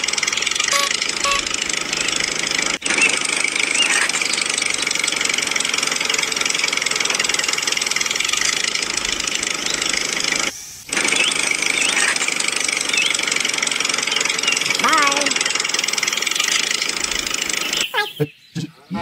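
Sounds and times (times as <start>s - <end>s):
tractor engine running: 0.0s - 18.3s.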